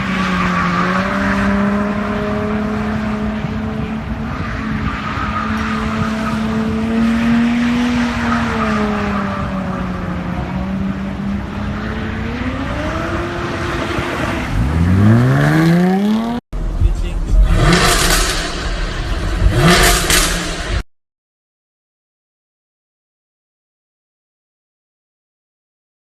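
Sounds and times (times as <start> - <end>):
car engine at high revs: 0.0 - 20.8
tyres skidding and squealing: 0.0 - 20.8.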